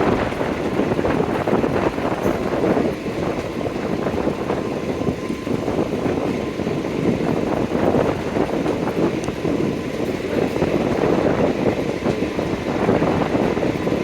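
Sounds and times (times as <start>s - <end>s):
train rumble: 0.0s - 14.0s
wheels rattling on rails: 0.0s - 14.0s
wind noise: 0.0s - 14.0s.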